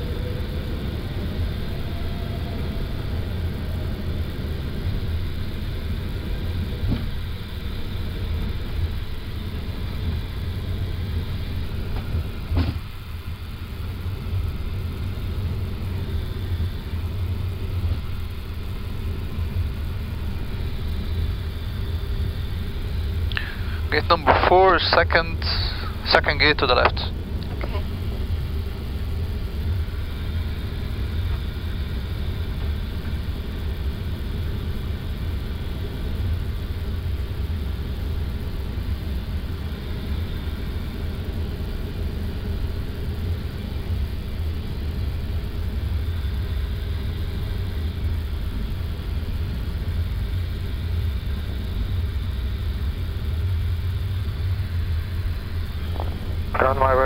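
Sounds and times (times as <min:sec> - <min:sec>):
airliner cockpit rumble: 0:00.0 - 0:57.0
faint steady whine: 0:00.0 - 0:57.0.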